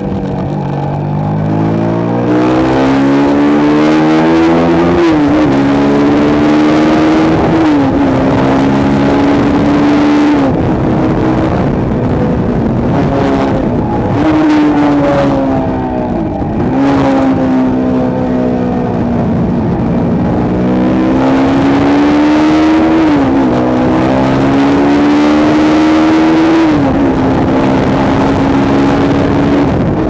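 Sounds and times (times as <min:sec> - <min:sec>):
motorcycle engine shifting gears: 0:00.0 - 0:30.0.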